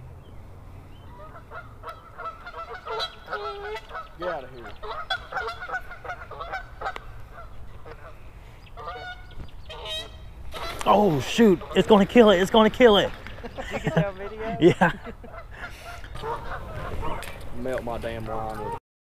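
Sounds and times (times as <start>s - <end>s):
geese honking: 1.1s - 17.4s, 18.4s - 18.8s.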